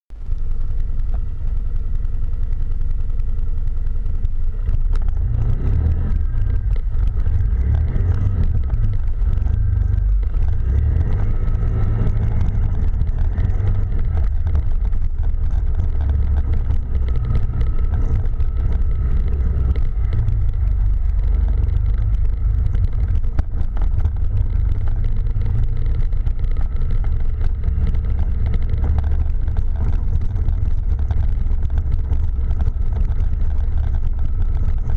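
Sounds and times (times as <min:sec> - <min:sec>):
quad bike engine revving: 0:04.6 - 0:34.9.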